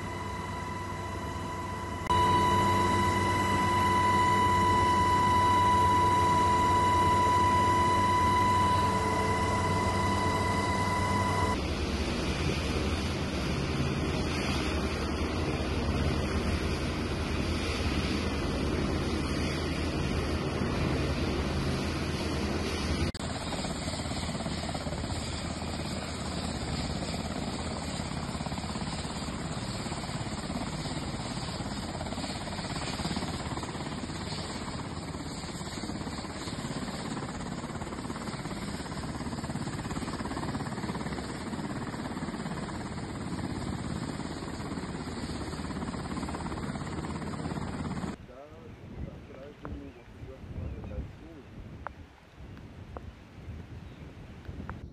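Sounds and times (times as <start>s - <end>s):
helicopter rotor chopping: 0.0s - 48.2s.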